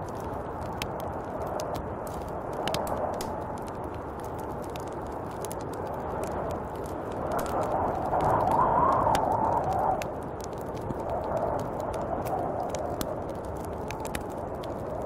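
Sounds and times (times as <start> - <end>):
snowstorm wind rushing: 0.0 - 15.0
small sharp ticks: 0.1 - 15.0.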